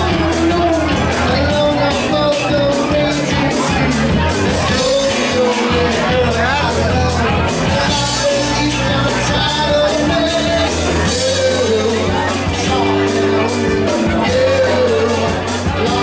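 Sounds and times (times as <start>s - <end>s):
drums keeping a beat: 0.0s - 16.0s
electric guitar: 0.0s - 16.0s
person singing: 0.0s - 16.0s.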